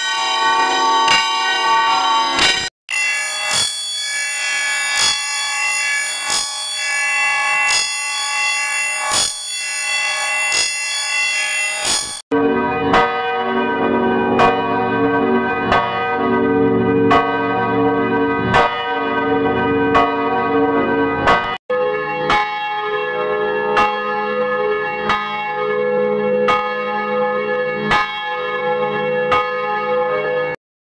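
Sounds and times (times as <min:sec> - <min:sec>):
church bells ringing: 0:00.0 - 0:03.3, 0:06.8 - 0:30.6.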